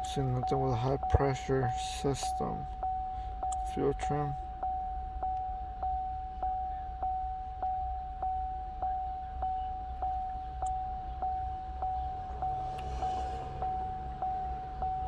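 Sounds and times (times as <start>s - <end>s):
car warning chime dinging: 0.0s - 15.0s
low background hum: 0.0s - 15.0s.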